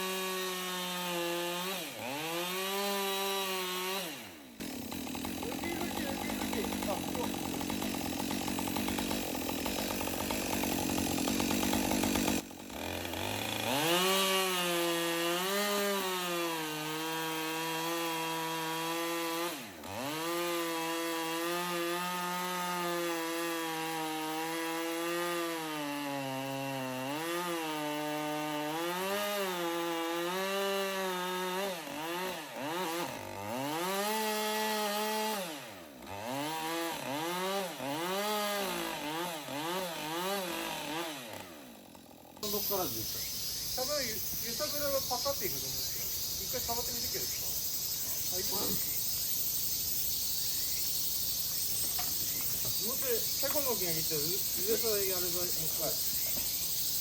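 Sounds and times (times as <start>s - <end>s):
chainsaw cutting and revving: 0.0s - 57.0s.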